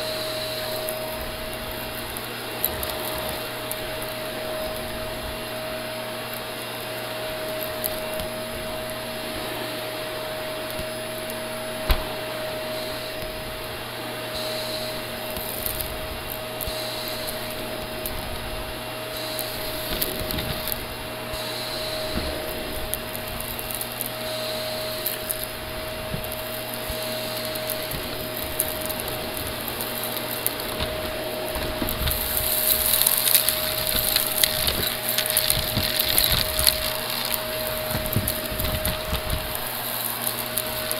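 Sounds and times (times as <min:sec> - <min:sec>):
debris crackling in vacuum: 0:00.0 - 0:40.9
vacuum cleaner motor whine: 0:00.0 - 0:40.9.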